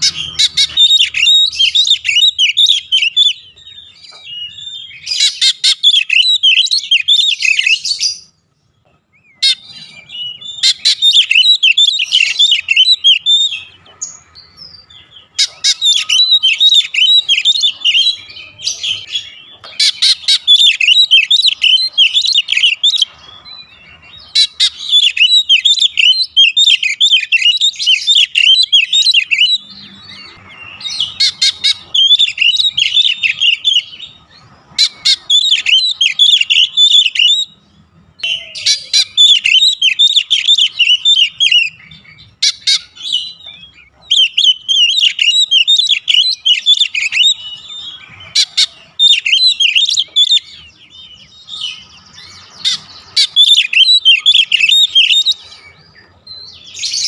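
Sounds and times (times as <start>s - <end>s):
bird singing chirps and whistles: 0.0s - 8.5s, 9.1s - 57.0s.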